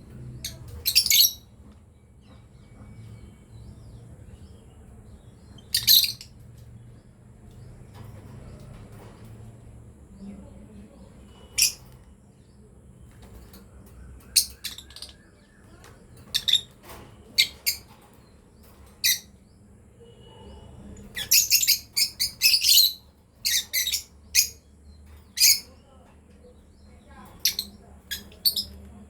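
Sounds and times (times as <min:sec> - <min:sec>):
birds chirping high: 0:00.0 - 0:29.0.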